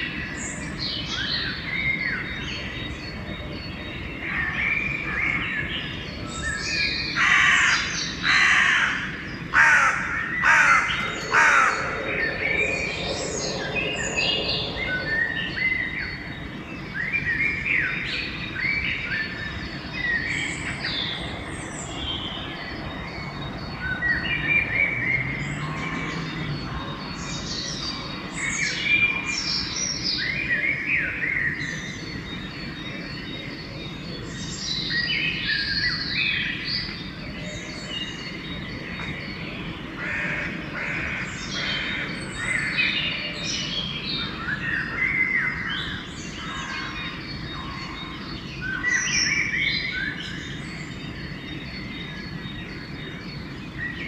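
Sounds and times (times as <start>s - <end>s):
low background noise: 0.0s - 54.0s
songbirds singing and chirping: 0.0s - 54.0s.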